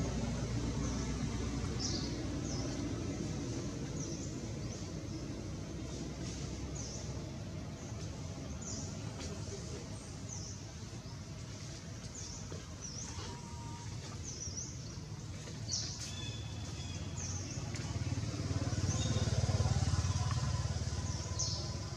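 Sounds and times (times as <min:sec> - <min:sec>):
low outdoor rumble: 0:00.0 - 0:21.9.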